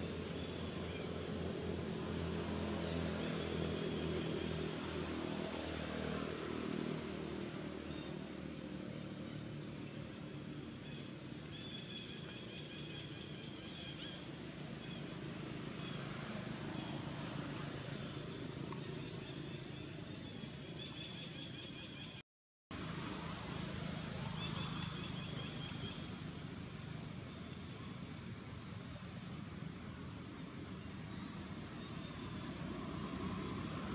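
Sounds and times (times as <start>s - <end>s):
high insect buzz: 0.0s - 22.2s, 22.8s - 33.9s.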